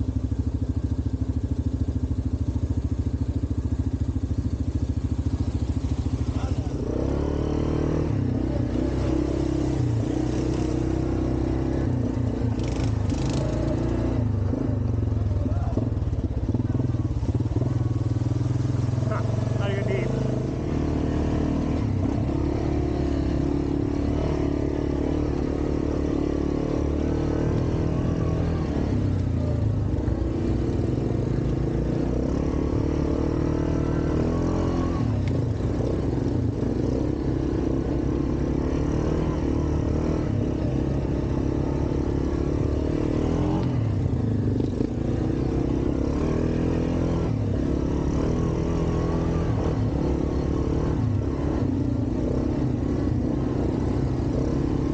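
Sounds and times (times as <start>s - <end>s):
quad bike engine running: 0.0s - 54.9s.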